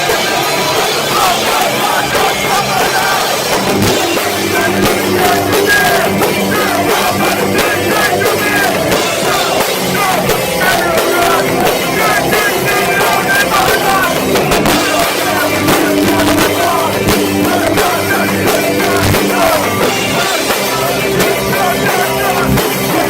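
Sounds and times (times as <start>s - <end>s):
live heavy rock band: 0.0s - 23.0s
shouted vocals: 0.0s - 23.0s.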